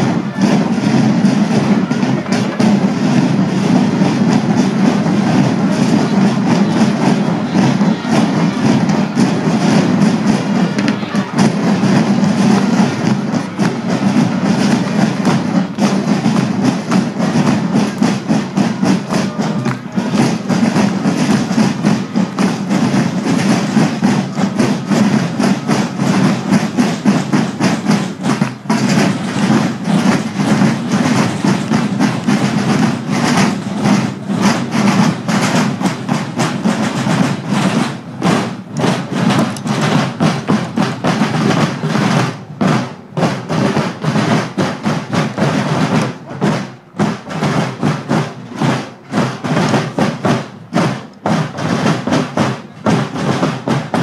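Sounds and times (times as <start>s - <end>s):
field drums rattling: 0.0s - 54.0s.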